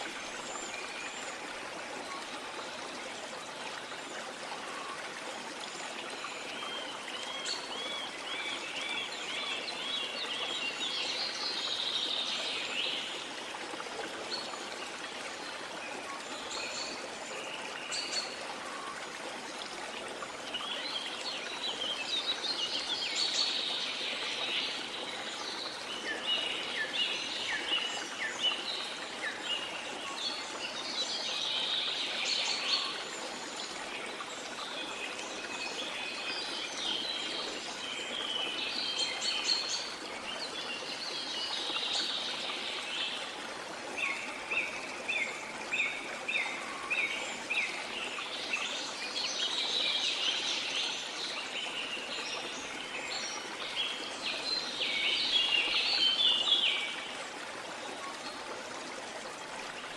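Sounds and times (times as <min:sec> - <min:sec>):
water flowing: 0:00.0 - 0:59.9.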